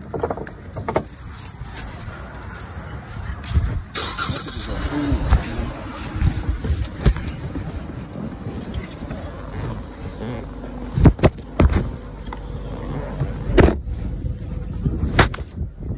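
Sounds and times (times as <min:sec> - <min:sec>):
microphone handling rumble: 0:00.0 - 0:15.9.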